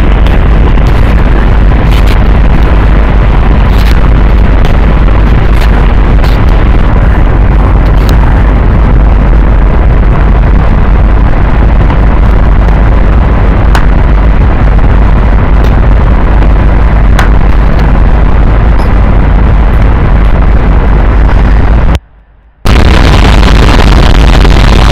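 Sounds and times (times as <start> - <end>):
loud distorted rumbling noise: 0.0 - 24.9.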